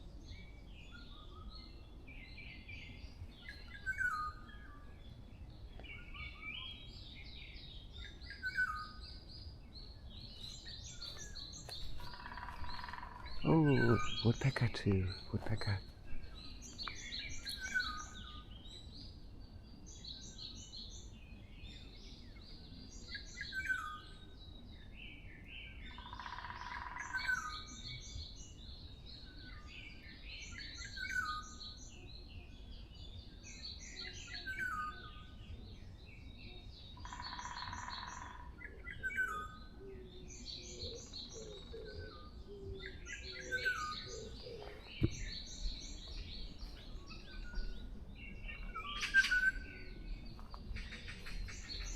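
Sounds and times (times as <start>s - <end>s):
bird song with trill: 0.0s - 51.9s.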